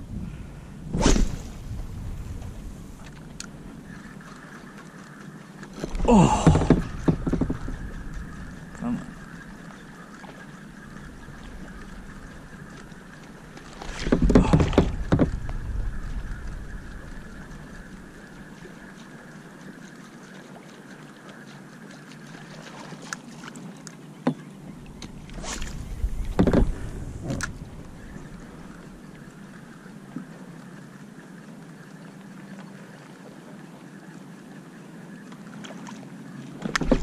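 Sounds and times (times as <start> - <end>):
water lapping around kayak: 0.0 - 37.0.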